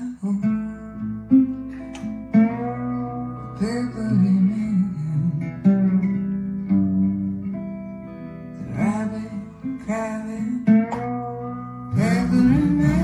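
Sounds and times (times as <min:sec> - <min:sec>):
person singing: 0:00.0 - 0:06.2, 0:08.6 - 0:13.0
guitar: 0:00.0 - 0:13.0.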